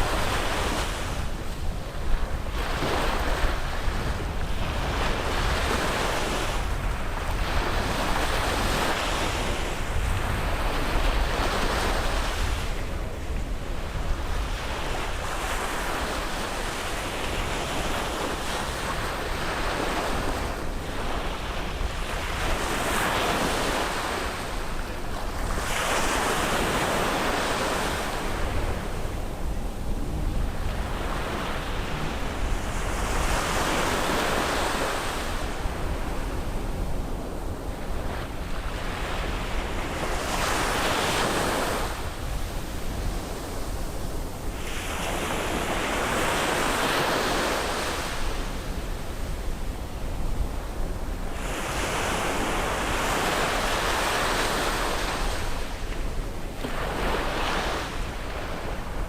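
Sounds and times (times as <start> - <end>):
ocean waves breaking on beach: 0.0 - 59.0
wind noise on microphone: 0.0 - 59.0.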